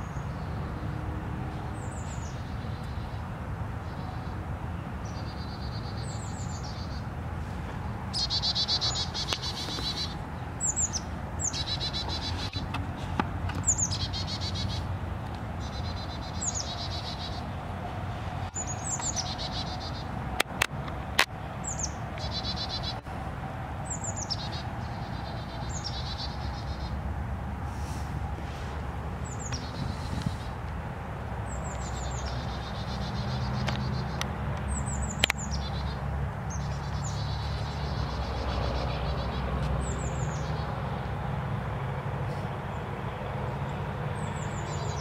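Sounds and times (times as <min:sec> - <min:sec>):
songbird singing: 0:00.0 - 0:27.2, 0:28.4 - 0:41.3, 0:41.9 - 0:45.0.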